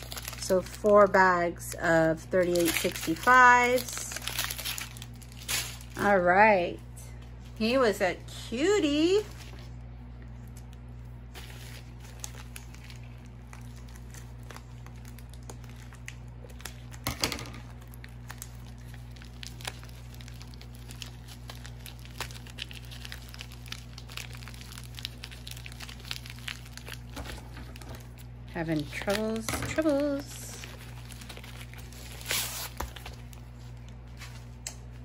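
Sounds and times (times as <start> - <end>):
plastic packaging crinkling: 0.0 - 1.7, 2.3 - 6.3, 8.9 - 35.0
steady low hum: 0.0 - 35.0.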